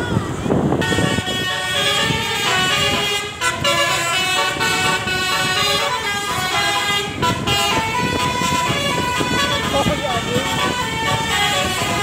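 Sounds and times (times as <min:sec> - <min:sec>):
multi-tone bus air horn tune: 0:00.6 - 0:12.0.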